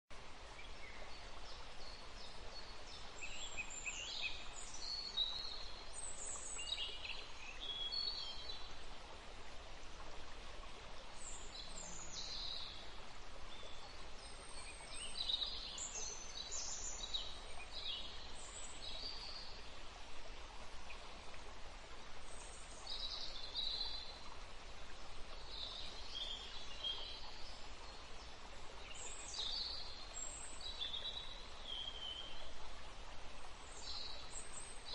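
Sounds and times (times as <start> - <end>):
steady background hiss: 0.1 - 34.9.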